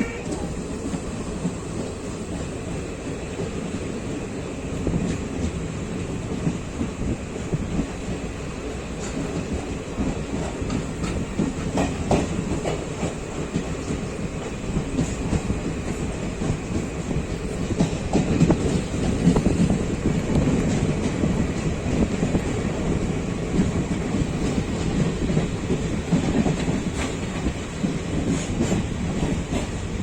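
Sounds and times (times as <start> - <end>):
train coaches rumbling: 0.0 - 30.0
wheels clicking over rail joints: 0.0 - 30.0.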